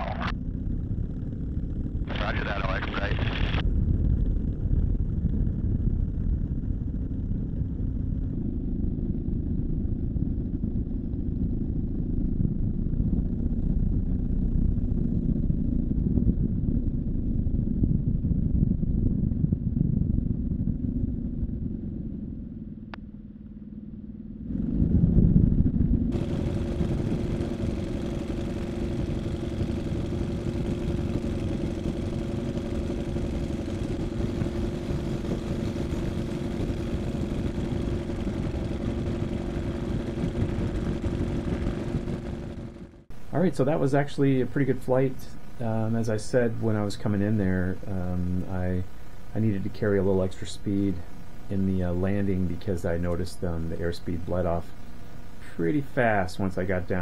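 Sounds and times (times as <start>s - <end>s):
ultralight engine and propeller: 0.0s - 57.0s.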